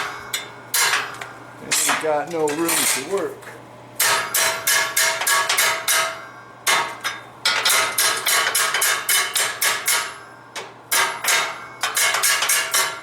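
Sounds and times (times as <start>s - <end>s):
hammer striking steel: 0.0s - 3.2s, 4.0s - 13.0s.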